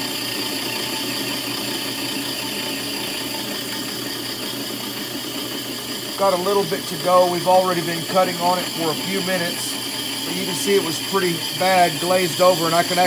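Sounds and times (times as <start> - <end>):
drill press motor hum: 0.0 - 13.0
grinding stone hiss: 1.4 - 13.0.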